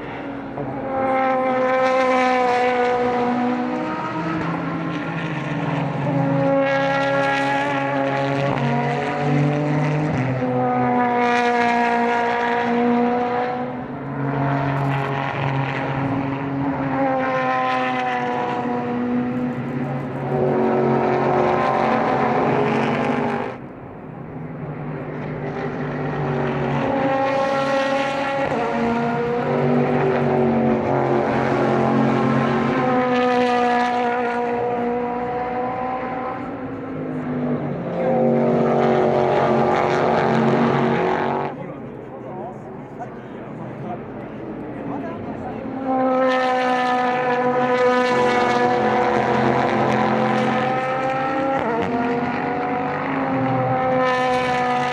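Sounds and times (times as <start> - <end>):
race cars passing at speed: 0.0 - 54.9.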